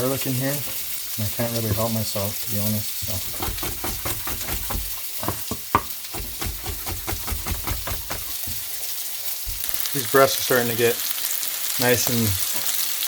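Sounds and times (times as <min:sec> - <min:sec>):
meat sizzling in a hot pan: 0:00.0 - 0:13.0.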